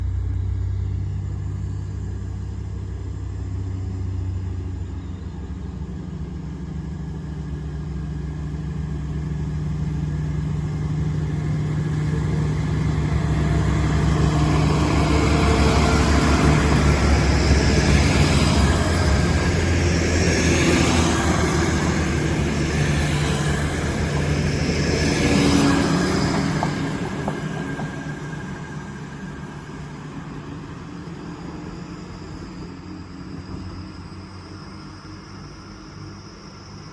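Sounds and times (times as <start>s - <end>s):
wheel and rail noise: 0.0s - 36.4s
train engine drone: 0.0s - 36.9s.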